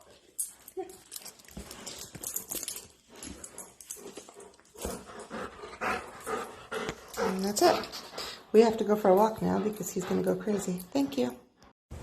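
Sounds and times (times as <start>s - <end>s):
dog breathing and snuffling: 1.2s - 11.5s.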